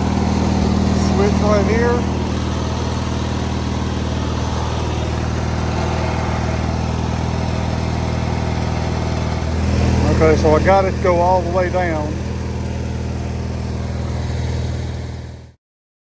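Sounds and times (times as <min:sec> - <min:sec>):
electric actuator running: 0:00.0 - 0:15.5
tractor engine idling: 0:00.0 - 0:15.6.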